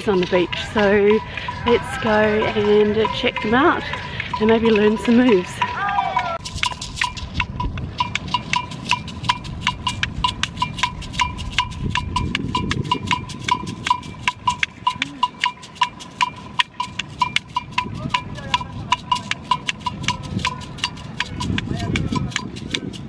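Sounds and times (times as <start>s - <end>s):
fast ringing percussion strikes: 0.0s - 23.0s.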